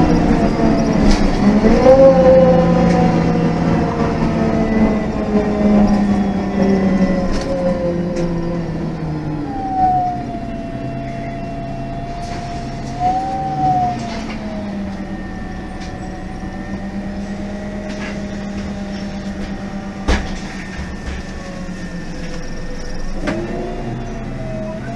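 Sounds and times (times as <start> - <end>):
bus engine: 0.0 - 24.9
high gearbox whine: 0.0 - 24.9.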